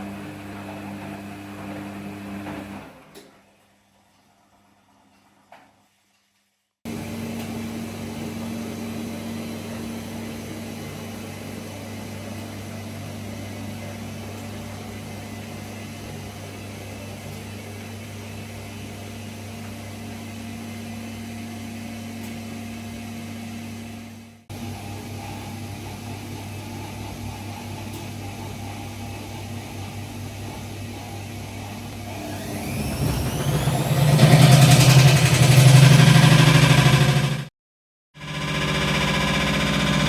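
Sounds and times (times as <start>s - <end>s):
washing machine running: 0.0s - 4.0s, 6.9s - 37.5s, 38.2s - 40.0s.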